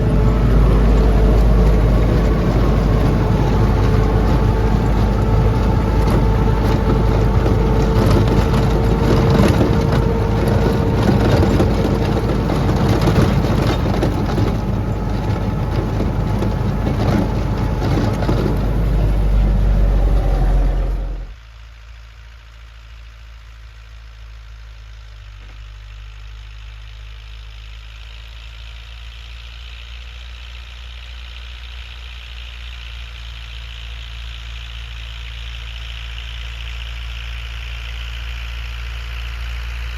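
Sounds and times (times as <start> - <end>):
snowblower machine noise with whine: 0.0 - 39.9
tractor engine running: 0.0 - 39.9.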